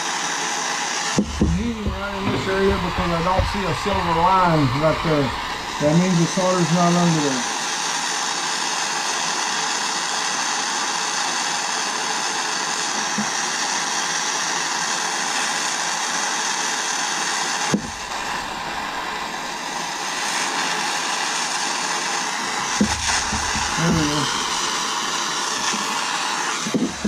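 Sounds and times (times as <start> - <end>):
gas torch hissing: 0.0 - 27.0.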